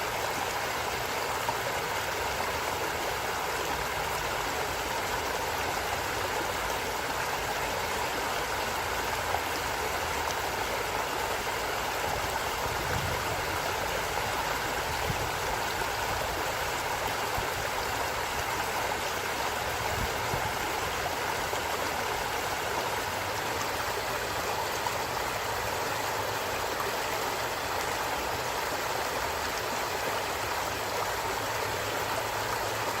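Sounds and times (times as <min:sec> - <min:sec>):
stream of running water: 0:00.0 - 0:33.0.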